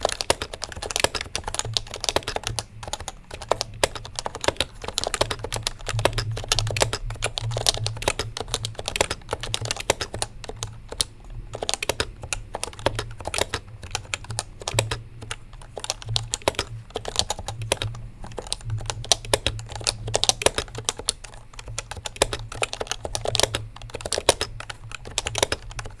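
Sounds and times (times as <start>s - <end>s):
keyboard typing clicks: 0.0s - 26.0s.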